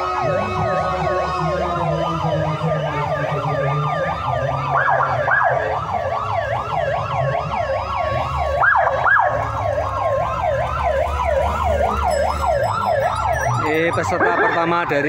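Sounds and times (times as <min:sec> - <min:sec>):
electronic siren yelping: 0:00.0 - 0:14.9.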